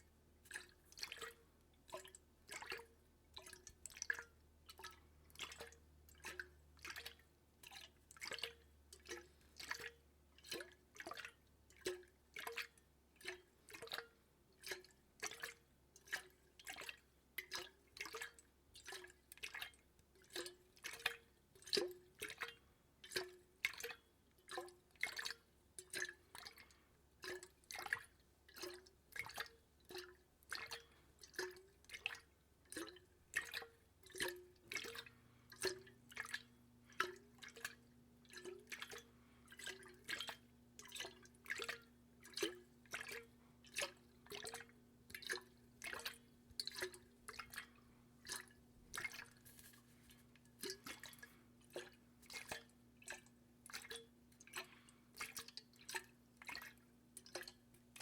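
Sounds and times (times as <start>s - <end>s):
water dripping: 0.5s - 16.2s, 16.8s - 58.0s.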